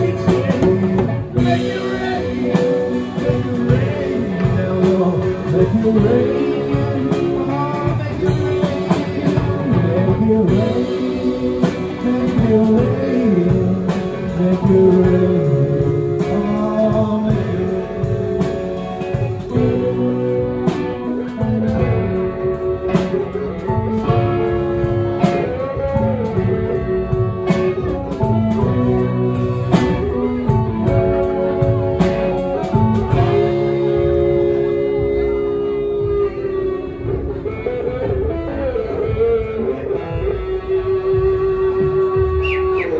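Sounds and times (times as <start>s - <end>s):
electric guitar sliding notes: 0.0s - 42.9s
live blues-rock band: 0.0s - 42.9s.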